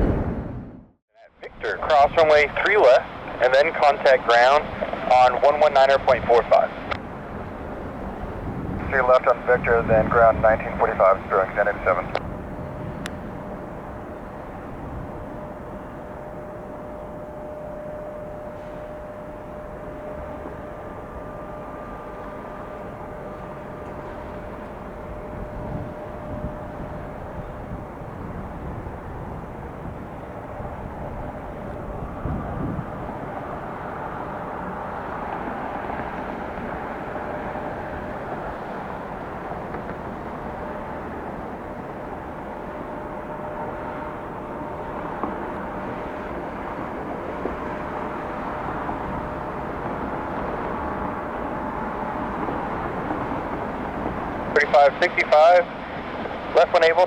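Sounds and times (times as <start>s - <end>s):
jet engines rushing with whine: 0.0s - 57.0s.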